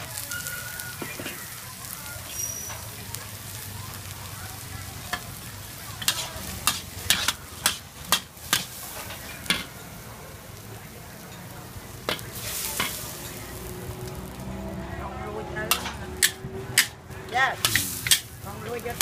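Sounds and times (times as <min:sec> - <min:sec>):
utensils clanking against a wok: 0:00.0 - 0:03.6, 0:04.9 - 0:10.5, 0:11.1 - 0:14.3, 0:15.6 - 0:19.0
vegetables sizzling: 0:00.0 - 0:14.9, 0:15.5 - 0:19.0.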